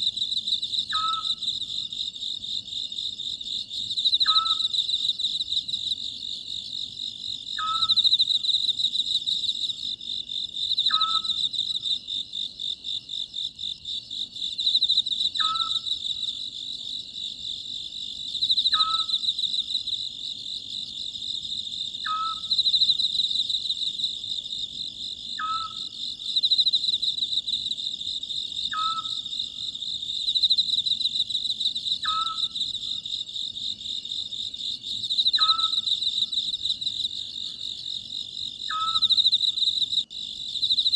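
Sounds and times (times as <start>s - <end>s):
insects chirring: 0.1s - 12.3s, 13.0s - 40.9s.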